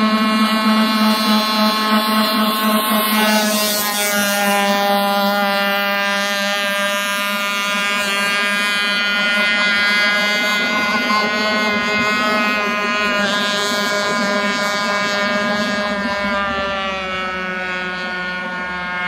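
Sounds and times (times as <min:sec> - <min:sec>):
model speedboat motor buzzing: 0:00.0 - 0:19.0.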